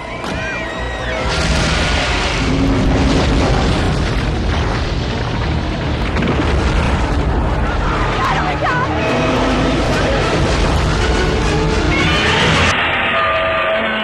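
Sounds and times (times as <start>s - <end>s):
music: 0.0s - 13.8s
deep rumbling boom: 1.2s - 12.8s.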